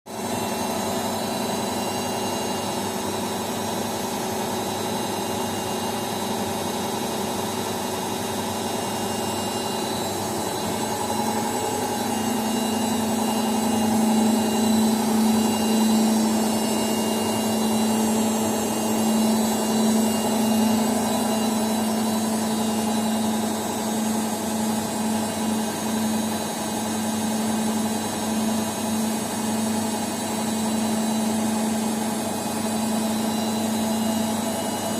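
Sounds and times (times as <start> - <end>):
washing machine motor hum: 0.1 - 34.9.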